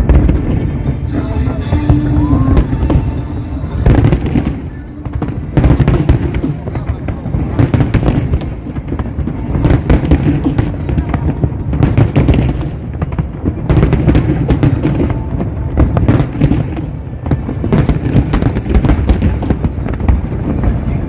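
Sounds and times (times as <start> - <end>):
deep fireworks booms: 0.0 - 21.0
fireworks bangs and crackles: 0.0 - 21.0.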